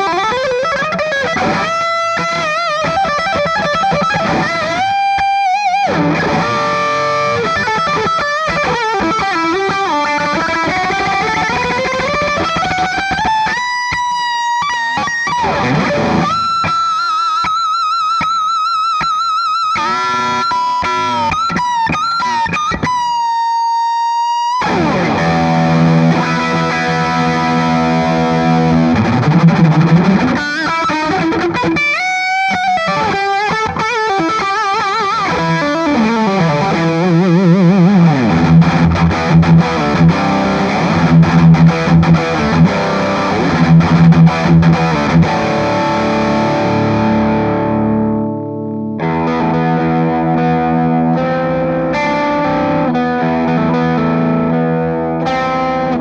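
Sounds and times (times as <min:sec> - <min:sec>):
distorted electric guitar riffs: 0:00.0 - 0:56.0.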